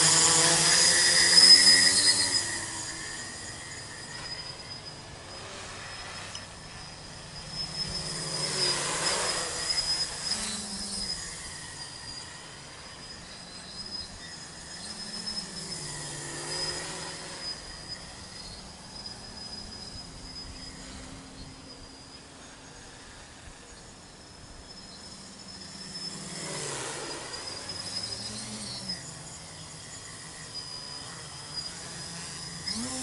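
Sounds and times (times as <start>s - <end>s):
drone motors buzzing: 0.0s - 33.0s.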